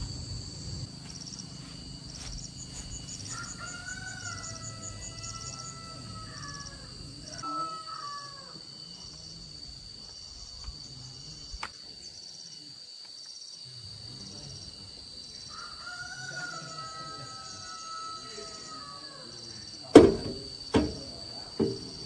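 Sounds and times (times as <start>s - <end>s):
high insect drone: 0.0s - 22.0s
insect chirping: 0.0s - 22.0s.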